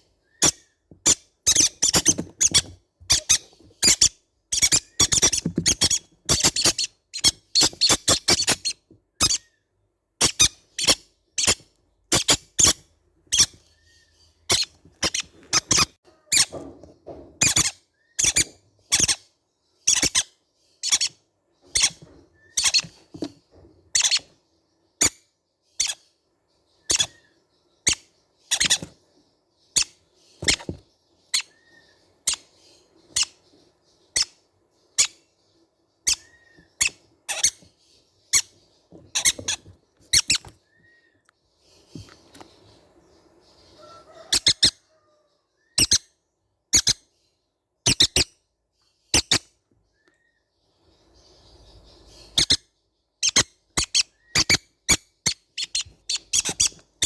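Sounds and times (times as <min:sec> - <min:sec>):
parrot chicks squeaky calls: 0:00.2 - 0:16.8, 0:17.4 - 0:29.0, 0:29.6 - 0:48.4, 0:49.0 - 0:57.0.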